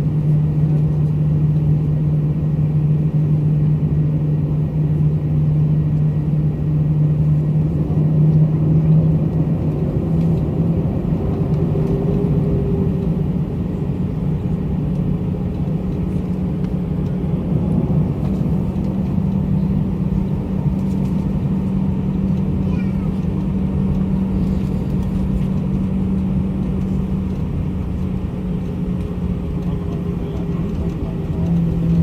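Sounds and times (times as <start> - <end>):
airliner engines droning in cabin: 0.0 - 32.0.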